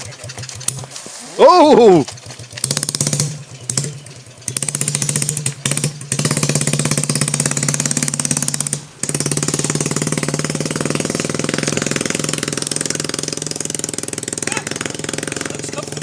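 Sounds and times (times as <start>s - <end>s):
small motorcycle engine starting and running: 0.0s - 16.0s.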